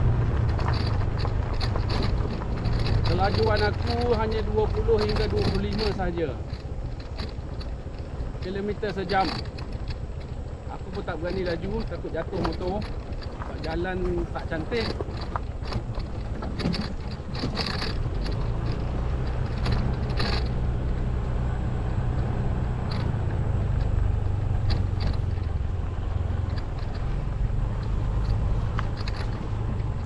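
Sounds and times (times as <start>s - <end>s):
knocks and rattles over bumps: 0.0s - 30.0s
scooter engine running: 0.0s - 30.0s.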